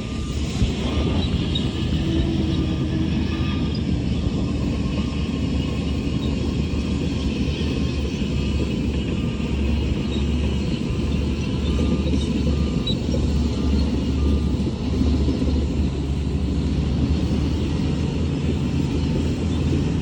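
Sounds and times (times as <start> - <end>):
heavy diesel engine rumbling: 0.0 - 20.0.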